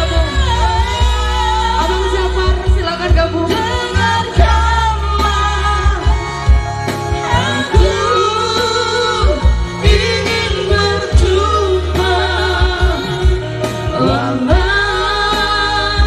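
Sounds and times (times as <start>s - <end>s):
man and woman singing: 0.0s - 6.2s, 7.2s - 16.0s.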